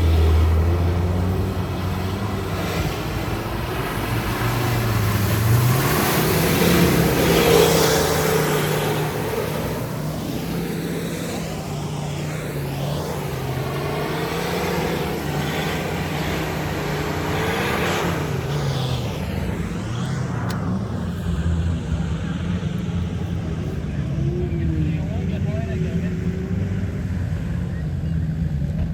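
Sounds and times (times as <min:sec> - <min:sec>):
off-road vehicle engine revving: 0:00.0 - 0:28.9.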